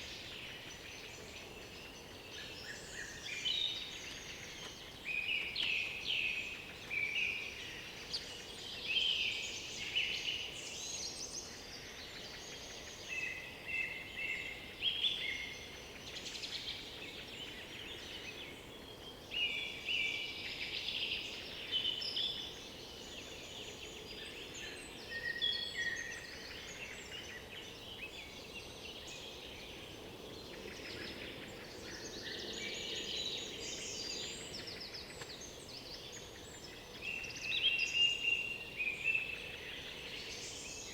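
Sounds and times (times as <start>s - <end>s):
songbirds singing: 0.0s - 40.9s
steady background hiss: 0.0s - 40.9s.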